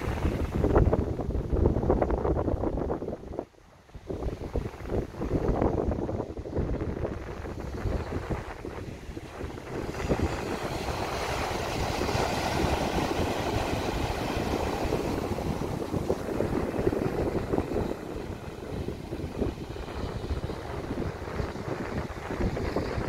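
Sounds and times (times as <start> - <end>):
wind buffeting microphone: 0.0 - 23.0
small waves breaking on sand: 3.9 - 23.0.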